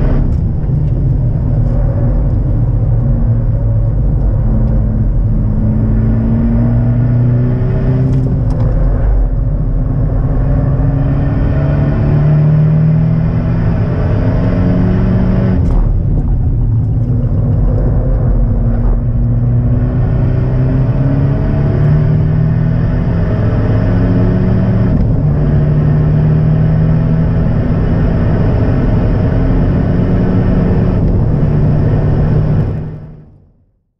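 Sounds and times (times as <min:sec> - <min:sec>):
car engine revving: 0:00.0 - 0:33.3.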